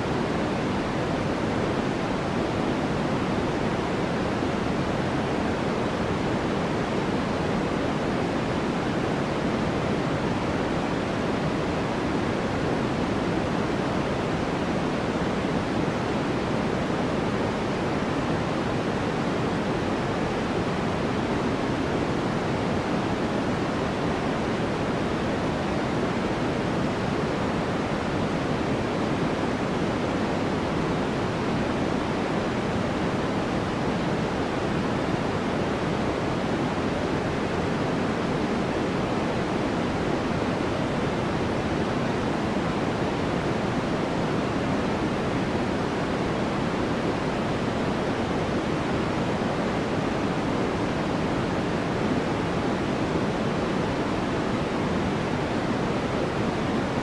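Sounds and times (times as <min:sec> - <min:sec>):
dark white noise hiss: 0:00.0 - 0:57.0.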